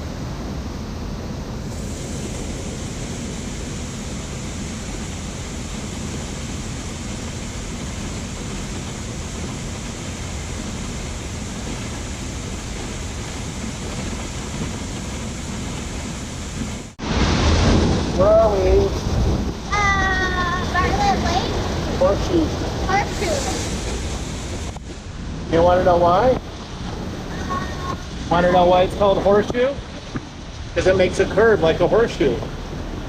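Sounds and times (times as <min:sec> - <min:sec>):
water rushing down spillway: 0:00.0 - 0:33.0.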